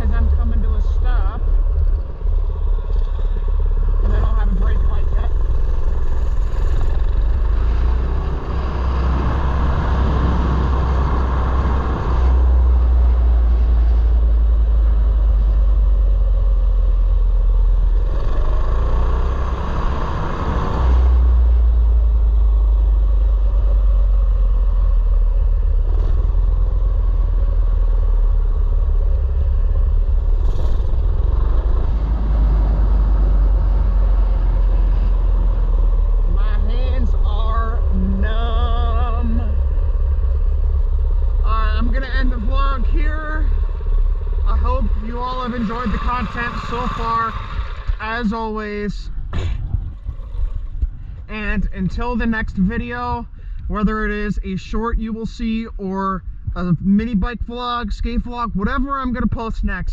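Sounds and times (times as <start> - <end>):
road noise: 0.0 - 59.9
wind rumble on microphone: 0.0 - 59.9.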